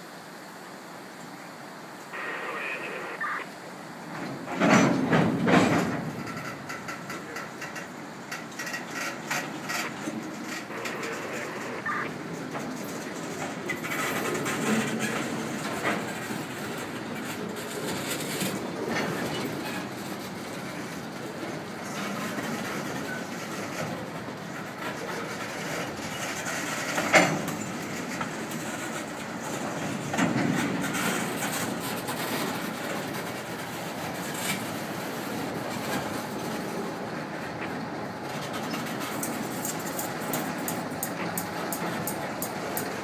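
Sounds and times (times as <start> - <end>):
train wheels clacking over rail joints: 4.1 - 43.0.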